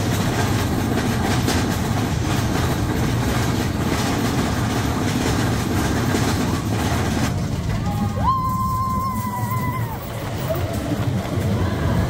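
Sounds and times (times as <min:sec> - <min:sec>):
ride vehicle rumbling on track: 0:00.0 - 0:12.0.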